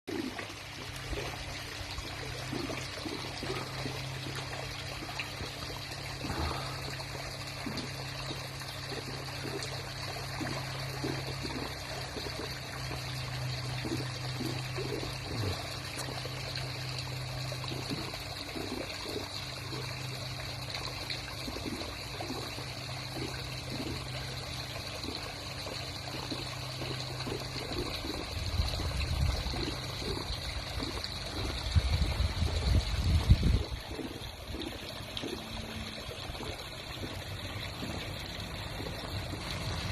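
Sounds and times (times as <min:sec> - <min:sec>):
pool vacuum motor hum: 0:00.1 - 0:39.9
trickling splashing water: 0:00.1 - 0:39.9.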